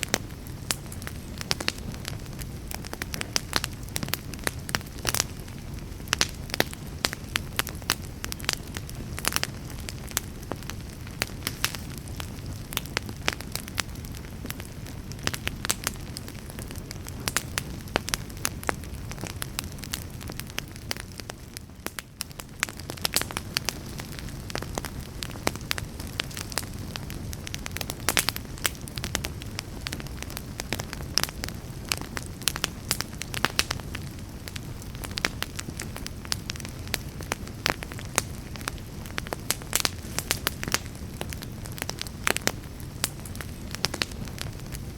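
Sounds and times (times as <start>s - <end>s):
logs crackling and popping: 0.0s - 44.9s
low rumble of flames: 0.0s - 44.9s.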